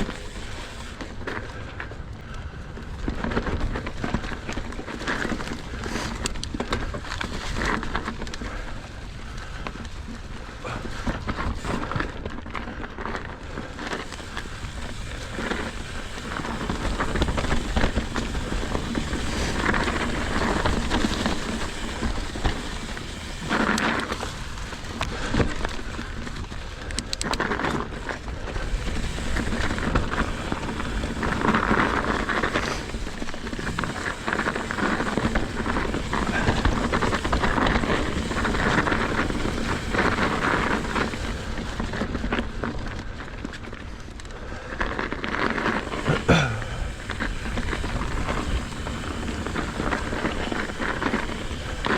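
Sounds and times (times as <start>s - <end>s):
bike rattling: 0.0s - 51.9s.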